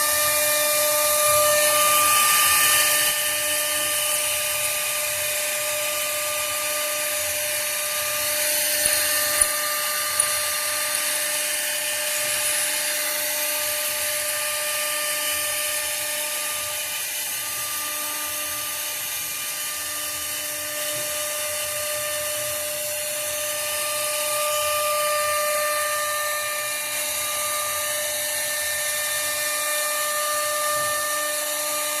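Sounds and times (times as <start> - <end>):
router spindle whining: 0.0 - 32.0.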